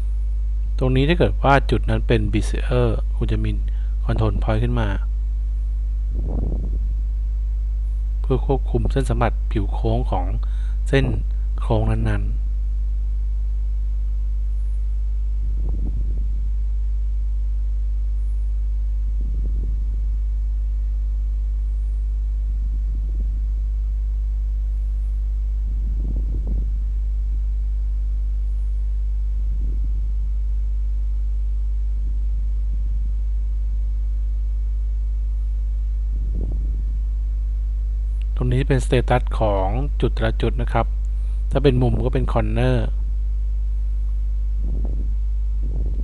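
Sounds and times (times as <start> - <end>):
faint soft low sounds: 0.0 - 46.0
mains hum: 0.0 - 46.0.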